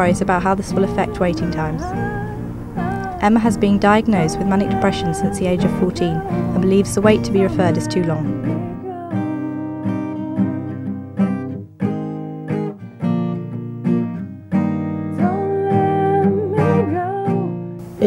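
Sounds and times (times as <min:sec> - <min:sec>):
acoustic guitar plucked chords: 0:00.0 - 0:18.0.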